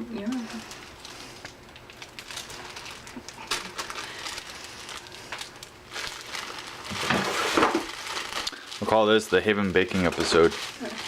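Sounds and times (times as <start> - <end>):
packaging crinkling: 0.2 - 11.0.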